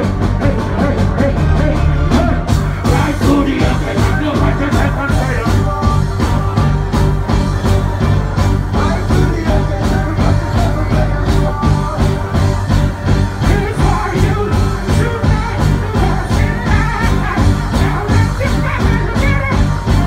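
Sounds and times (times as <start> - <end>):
live reggae band playing: 0.0 - 20.0.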